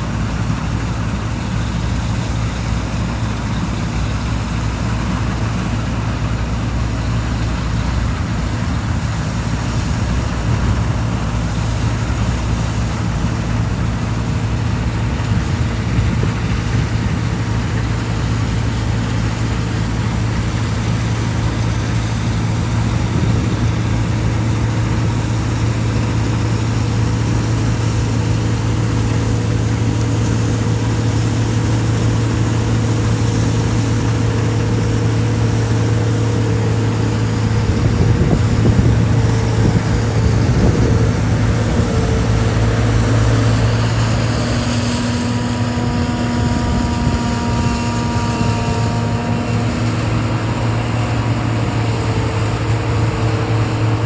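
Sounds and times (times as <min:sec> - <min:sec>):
machinery engine humming: 0:00.0 - 0:54.0.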